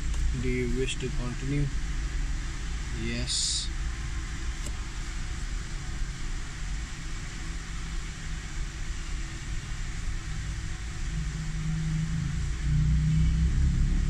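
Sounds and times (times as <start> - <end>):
background hiss: 0.0 - 14.0
steady low rumble: 0.0 - 14.0.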